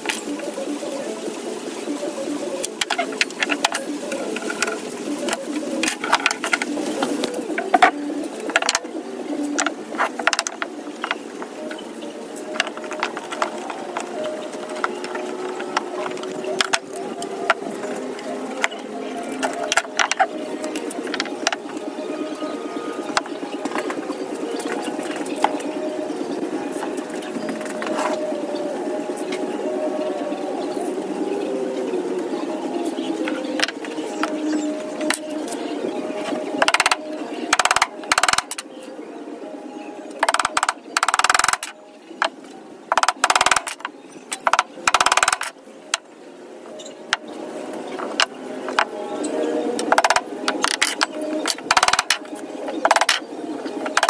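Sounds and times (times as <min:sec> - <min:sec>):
birds cooing: 0:00.0 - 0:54.0.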